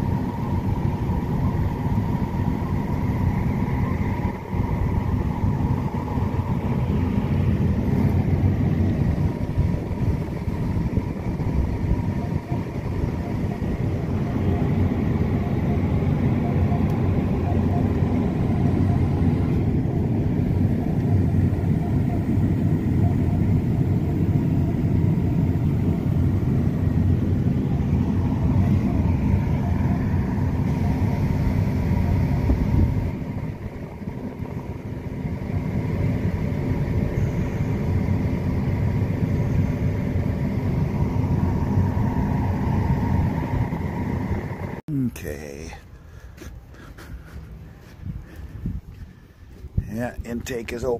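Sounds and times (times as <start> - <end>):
combine harvester drone: 0.0 - 50.9
faint steady whine: 0.0 - 50.9.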